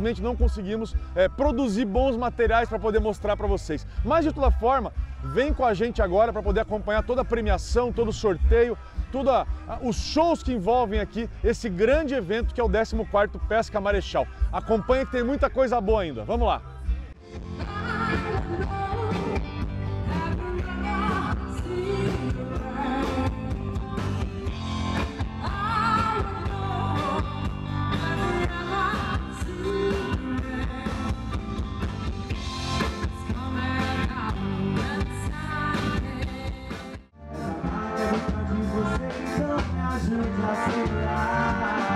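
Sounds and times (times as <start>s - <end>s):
song with singing over a beat: 0.0s - 41.9s.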